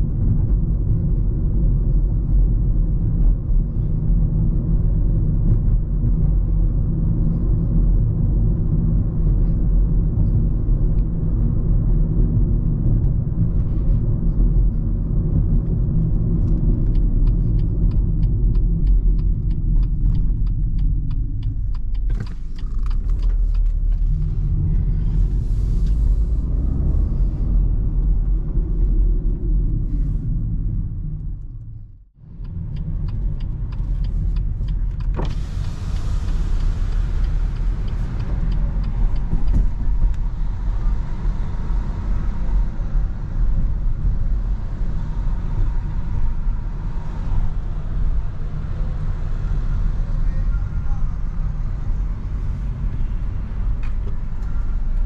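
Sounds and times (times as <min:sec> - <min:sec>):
car engine and tyres rumbling: 0:00.0 - 0:55.0
outside air and traffic hiss: 0:00.0 - 0:55.0.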